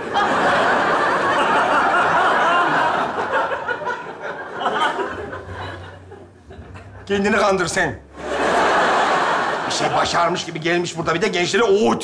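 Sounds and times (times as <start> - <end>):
audience laughing: 0.0 - 10.6.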